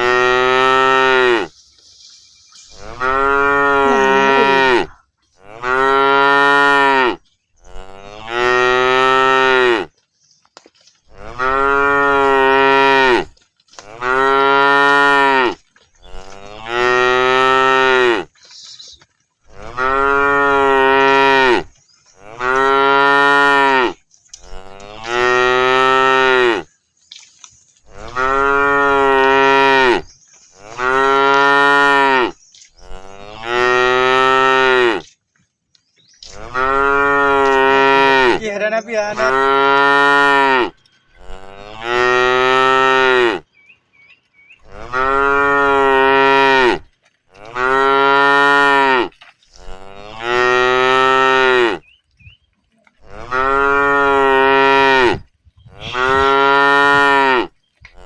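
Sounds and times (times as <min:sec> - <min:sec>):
cows mooing: 0:00.0 - 0:01.6, 0:02.6 - 0:10.0, 0:11.1 - 0:26.7, 0:27.8 - 0:35.1, 0:36.2 - 0:43.6, 0:44.6 - 0:52.0, 0:52.9 - 0:58.0.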